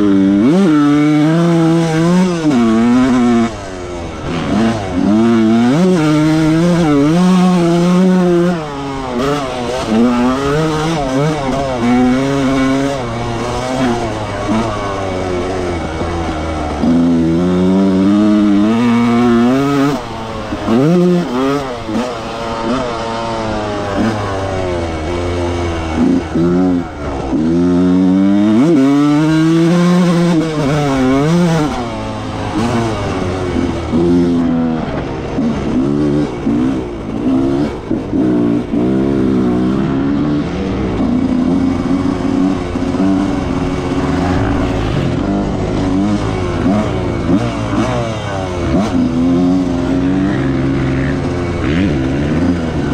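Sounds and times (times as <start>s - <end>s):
two-stroke motorcycle engine revving: 0.0s - 52.9s.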